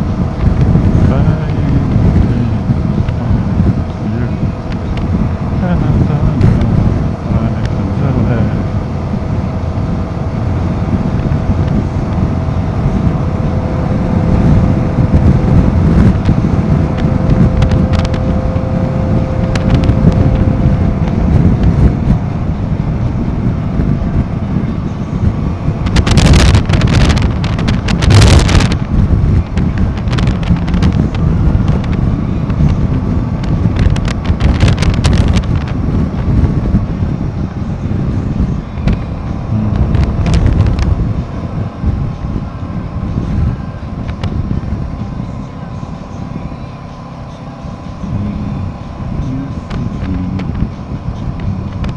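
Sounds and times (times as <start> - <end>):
motorcycle engine running: 0.0 - 51.9
wind noise on microphone: 0.0 - 51.9.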